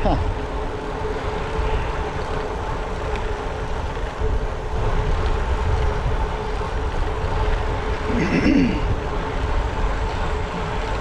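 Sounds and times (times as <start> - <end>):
bicycle road noise: 0.0 - 11.0
faint steady hum: 0.0 - 11.0
wind rushing over microphone: 0.0 - 11.0.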